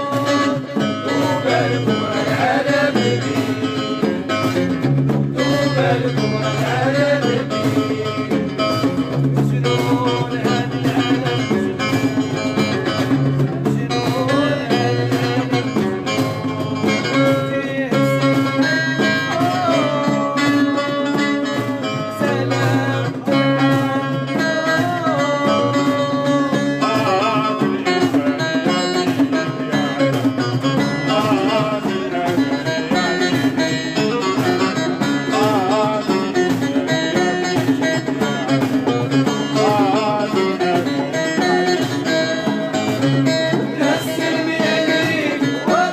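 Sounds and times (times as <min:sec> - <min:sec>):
plucked string instruments: 0:00.0 - 0:45.9.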